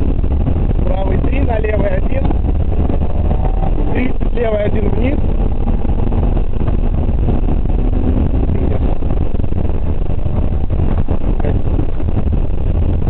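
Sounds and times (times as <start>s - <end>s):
car engine running hard: 0.0s - 13.0s
gravel and road noise: 0.0s - 13.0s.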